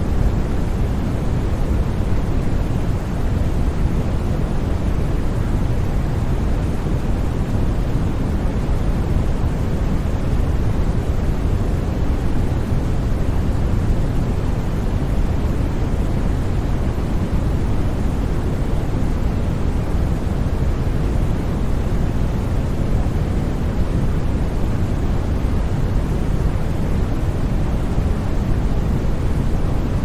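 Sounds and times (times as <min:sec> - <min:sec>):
deep white noise: 0:00.0 - 0:30.0.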